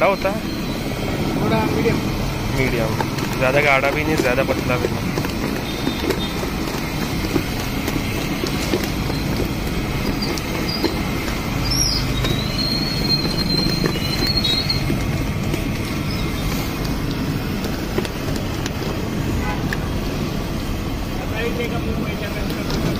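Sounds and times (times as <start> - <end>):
street traffic rumble: 0.0 - 22.9.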